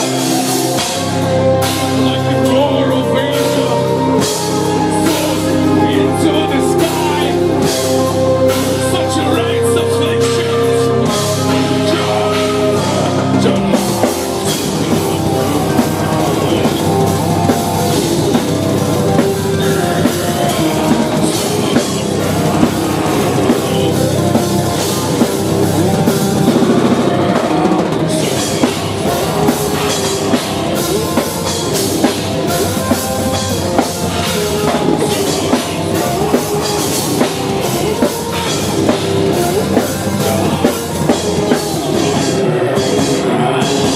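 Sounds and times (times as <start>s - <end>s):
fast dense drumming: 0.0s - 43.9s
metal band playing: 0.0s - 43.9s.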